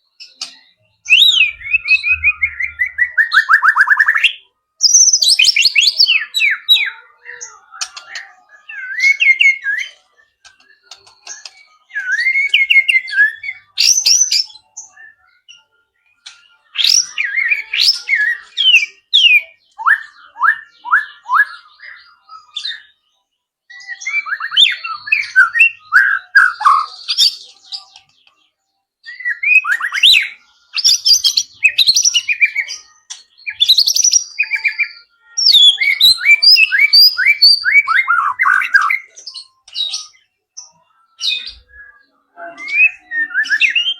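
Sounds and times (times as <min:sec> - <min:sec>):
bird singing whistles and trills: 0:00.0 - 0:43.9.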